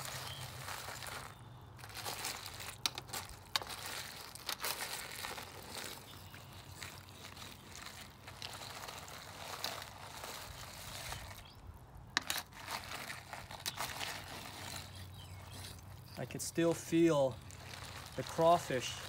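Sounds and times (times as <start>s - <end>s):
crawfish shells rustling in pot: 0.0s - 19.0s.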